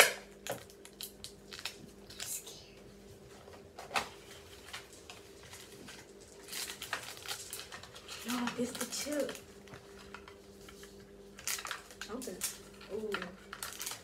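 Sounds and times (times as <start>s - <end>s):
packaging crinkling and clicking: 0.0s - 2.4s, 3.8s - 14.0s.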